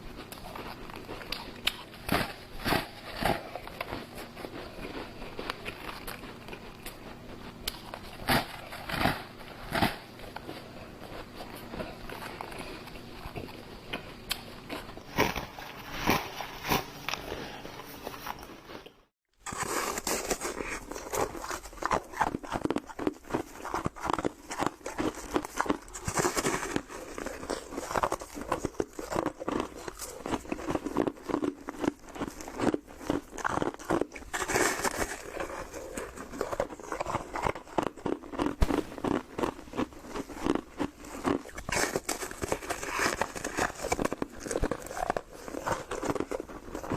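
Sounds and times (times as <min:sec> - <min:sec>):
crunchy chewing: 0:00.0 - 0:46.9.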